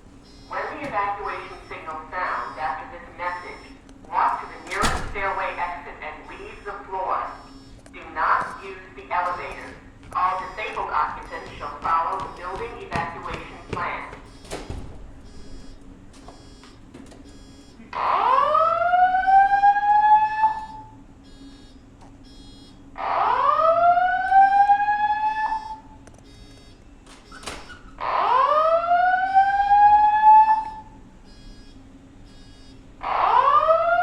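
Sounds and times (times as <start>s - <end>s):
fire alarm whoop tone: 0.2s - 5.1s, 6.2s - 7.8s, 9.6s - 34.0s.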